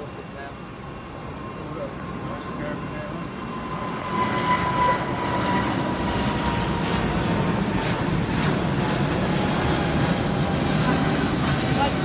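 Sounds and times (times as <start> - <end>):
jet airliner engines rushing: 0.0 - 12.0
thin jet engine whine: 0.0 - 12.0.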